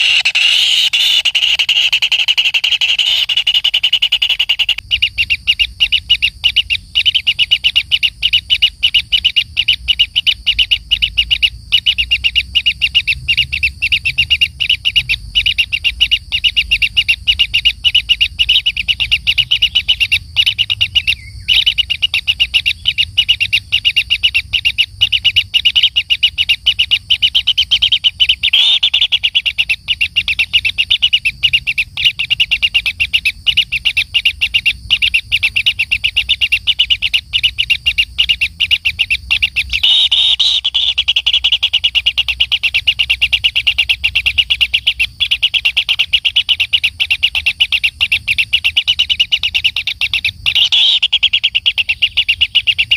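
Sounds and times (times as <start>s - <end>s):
nestlings begging calls: 0.0s - 52.9s.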